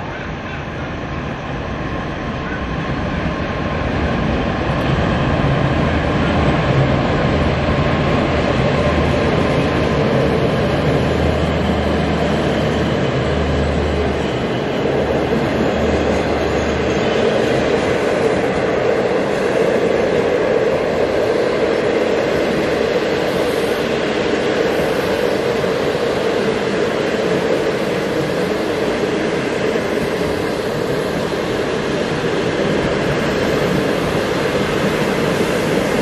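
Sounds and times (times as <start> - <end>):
locomotive low drone: 0.0 - 36.0
train wheels rumbling on rails: 0.0 - 36.0.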